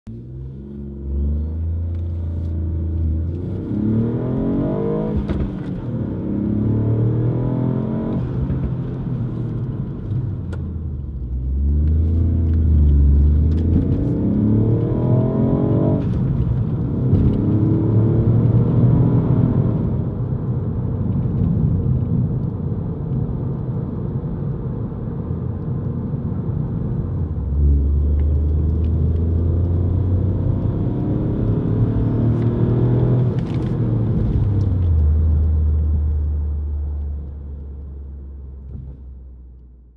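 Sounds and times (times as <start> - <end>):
car engine revving in cabin: 0.1 - 22.3, 26.3 - 39.1.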